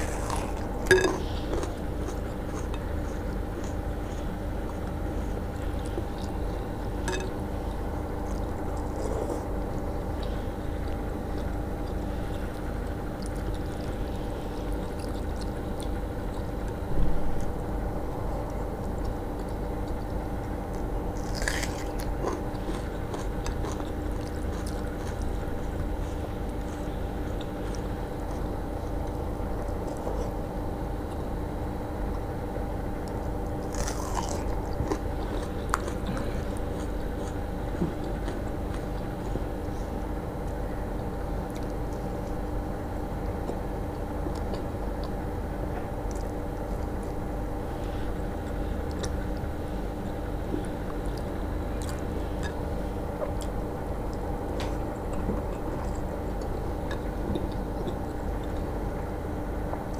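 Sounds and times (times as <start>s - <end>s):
chewing and smacking soft food: 0.0s - 59.9s
steady hum: 0.0s - 59.9s.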